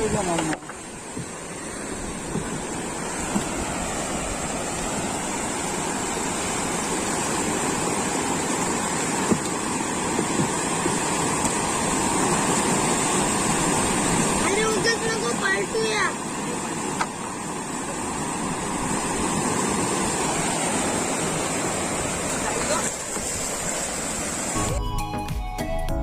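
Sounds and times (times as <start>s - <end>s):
sea waves washing on shore: 0.0s - 24.6s.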